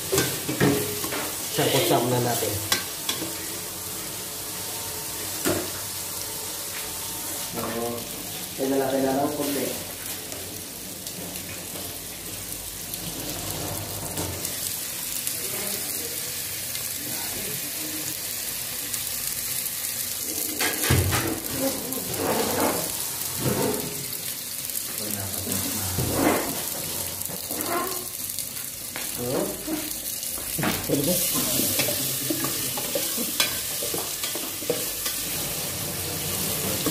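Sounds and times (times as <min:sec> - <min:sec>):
meat sizzling in a pot: 0:00.0 - 0:36.9.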